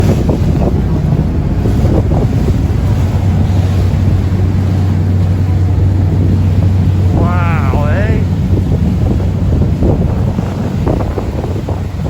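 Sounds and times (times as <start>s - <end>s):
boat engine low hum: 0.0s - 12.0s
sea water around hull: 0.0s - 12.0s
wind buffeting microphone: 0.0s - 12.0s.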